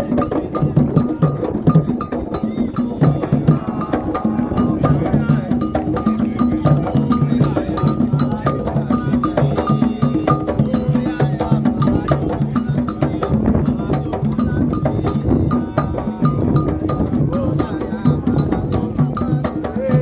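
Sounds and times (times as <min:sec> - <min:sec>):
hand drums playing fast rhythm: 0:00.0 - 0:20.0.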